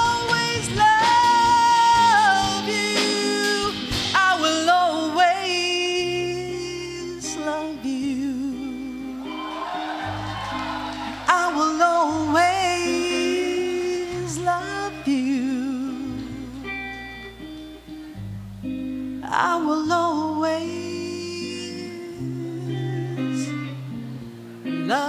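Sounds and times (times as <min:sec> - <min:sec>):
woman singing with vibrato: 0:00.0 - 0:09.4, 0:11.2 - 0:17.2, 0:19.2 - 0:23.8, 0:24.8 - 0:25.0
keyboard accompaniment: 0:00.0 - 0:25.0.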